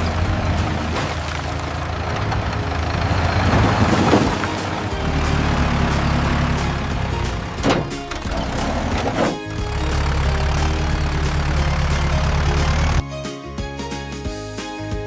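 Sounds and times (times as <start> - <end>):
engine running: 0.0 - 13.0
background music: 0.0 - 15.0.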